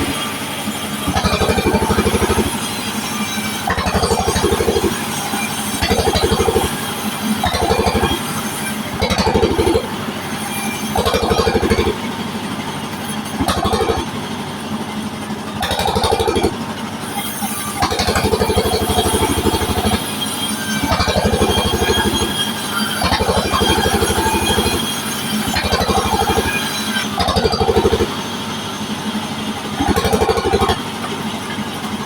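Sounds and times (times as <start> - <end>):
saw blade cutting wood: 0.0 - 12.3, 12.9 - 14.2, 15.5 - 32.0
sawmill engine pulsing: 0.0 - 32.0.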